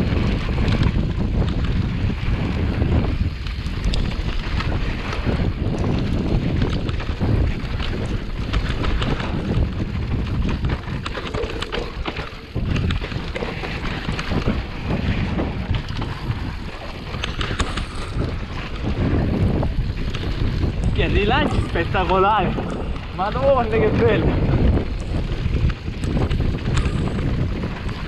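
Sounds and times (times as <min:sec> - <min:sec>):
bike clicks and rattles: 0:00.0 - 0:28.0
tyres rumbling on dirt trail: 0:00.0 - 0:28.0
wind buffeting microphone: 0:00.0 - 0:28.0.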